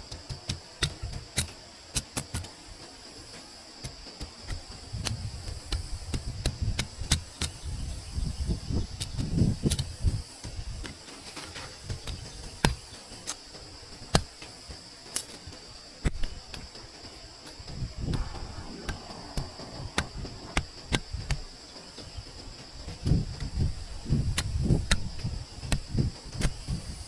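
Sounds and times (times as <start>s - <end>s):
high insect chirring: 0.0s - 27.0s
low rustling thuds: 4.0s - 27.0s.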